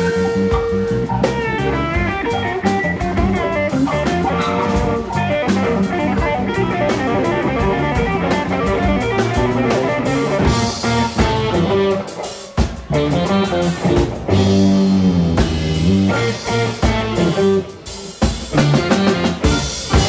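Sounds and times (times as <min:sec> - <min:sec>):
drum kit: 0:00.0 - 0:20.0
electric guitar: 0:00.0 - 0:20.0.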